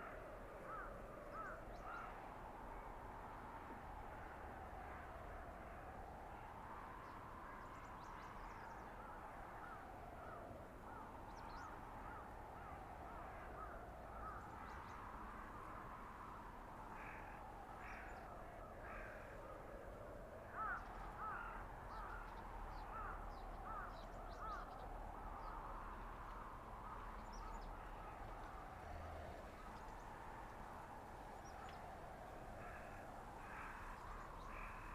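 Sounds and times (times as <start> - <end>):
wind howling: 0.0 - 34.9.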